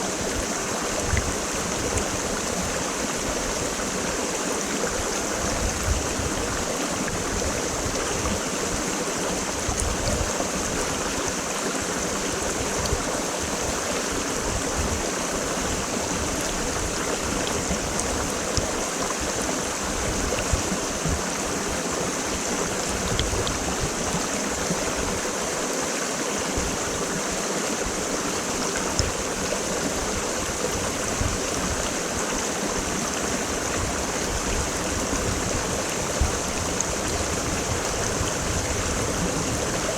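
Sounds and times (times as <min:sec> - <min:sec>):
creek water flowing: 0:00.0 - 0:39.9
water splashes: 0:00.0 - 0:39.9.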